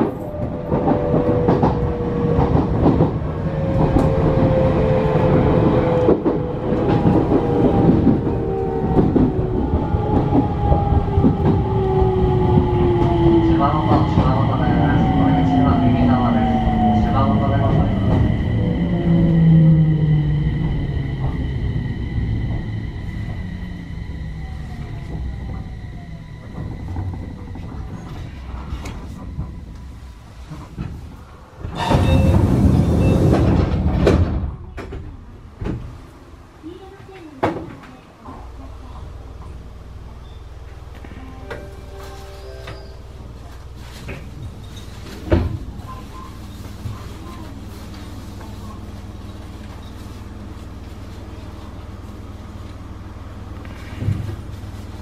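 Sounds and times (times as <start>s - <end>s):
electric train rumble and whine: 0.0s - 55.0s.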